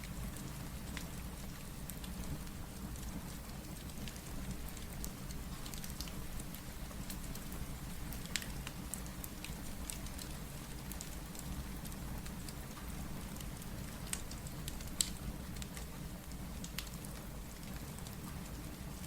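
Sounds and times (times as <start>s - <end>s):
steady rain: 0.0s - 19.0s
wood fire crackling: 0.1s - 19.0s.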